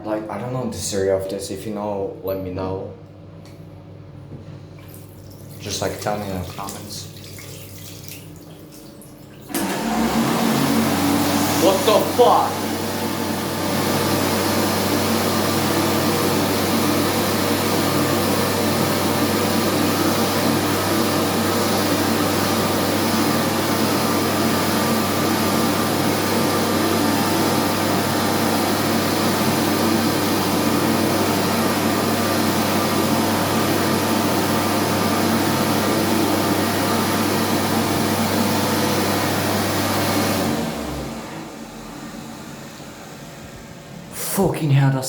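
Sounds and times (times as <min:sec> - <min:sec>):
hand dryer running: 0:04.8 - 0:45.0.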